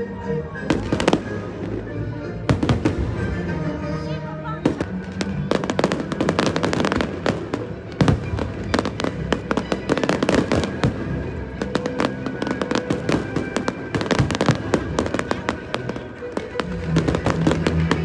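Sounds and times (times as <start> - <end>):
music: 0.0 - 18.0
fireworks bursting and crackling: 0.6 - 18.0.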